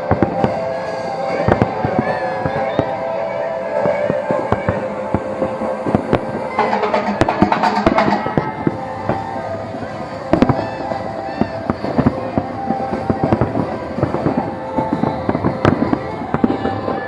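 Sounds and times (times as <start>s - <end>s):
fireworks bangs and crackles: 0.0s - 17.0s
music tones: 0.0s - 17.0s.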